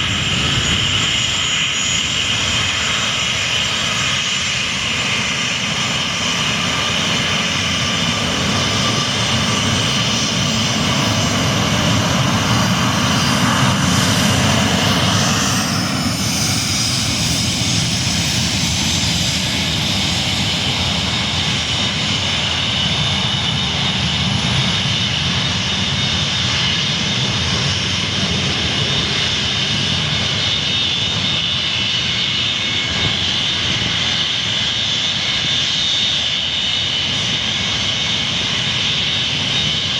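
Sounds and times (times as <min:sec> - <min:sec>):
jet engines at takeoff power: 0:00.0 - 0:39.9.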